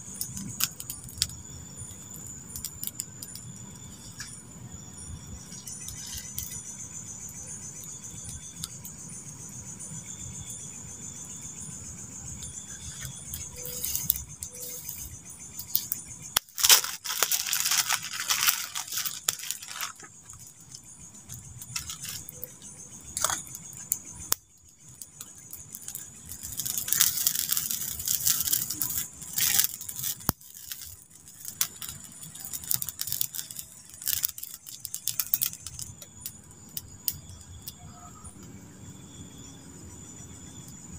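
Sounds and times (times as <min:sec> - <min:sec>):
campfire crackling: 0:00.0 - 0:37.8.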